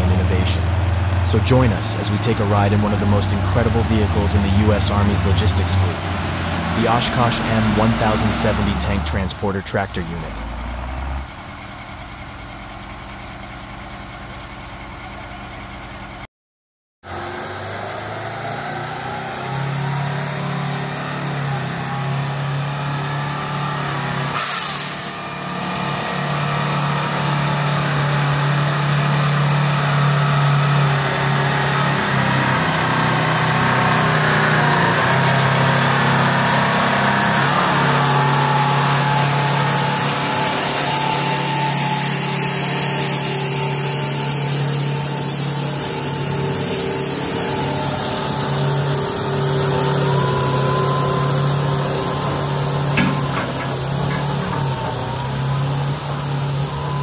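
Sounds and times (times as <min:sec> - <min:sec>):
diesel truck engine running: 0:00.0 - 0:16.3, 0:17.0 - 0:57.0.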